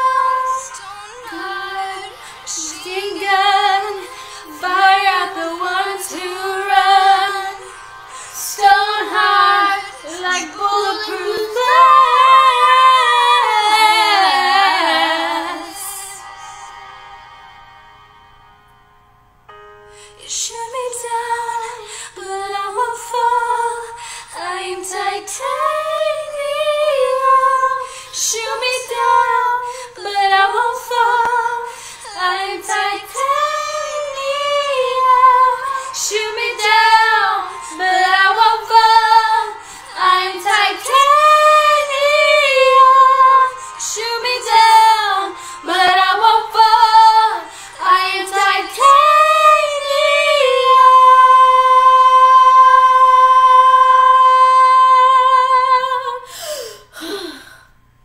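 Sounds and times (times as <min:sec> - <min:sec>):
woman and girl singing pop song: 0:00.0 - 0:16.7, 0:20.0 - 0:57.6.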